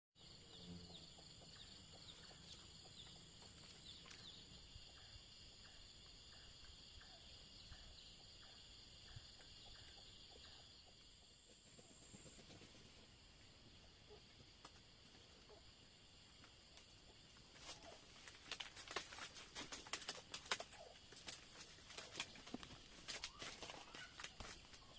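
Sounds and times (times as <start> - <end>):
high-pitched insect chorus: 0.2 - 24.9
regular ticking insect call: 0.2 - 24.9.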